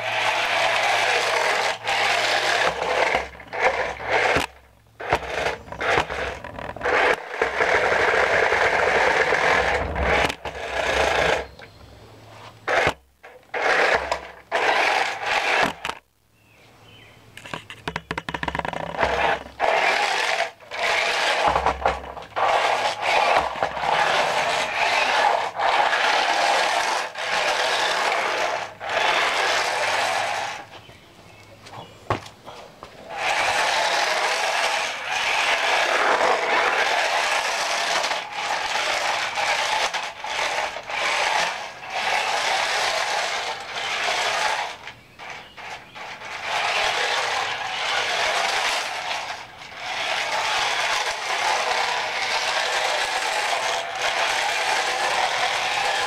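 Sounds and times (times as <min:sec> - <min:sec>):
toy car electric motor and gears: 0:00.0 - 0:11.6, 0:12.6 - 0:16.0, 0:17.9 - 0:30.7, 0:33.0 - 0:56.0.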